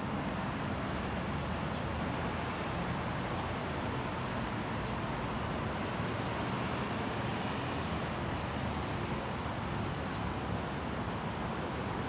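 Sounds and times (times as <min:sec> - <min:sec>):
outdoor background rush: 0:00.0 - 0:12.0.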